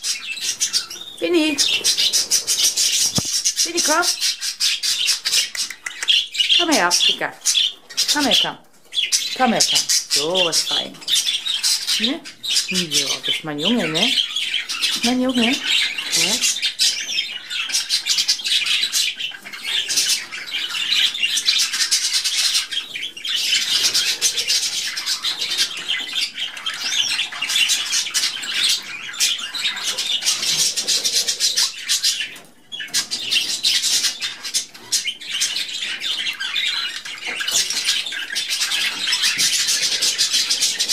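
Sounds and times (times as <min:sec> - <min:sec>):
budgerigars chattering and warbling: 0:00.0 - 0:40.9.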